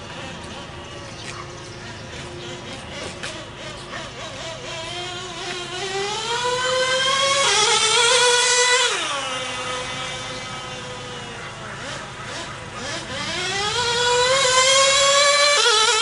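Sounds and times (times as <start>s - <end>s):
small nitro engine revving: 0.0s - 16.0s.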